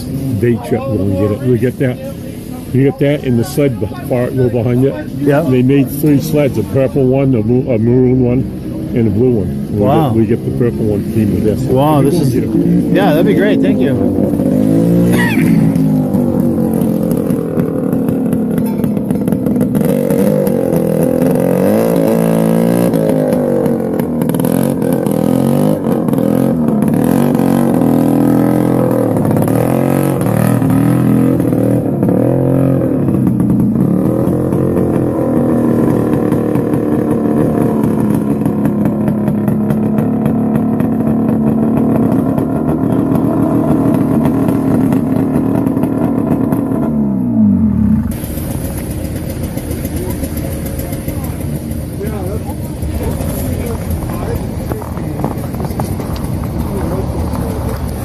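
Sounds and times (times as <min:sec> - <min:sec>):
snowmobile engines revving: 0:00.0 - 0:58.0.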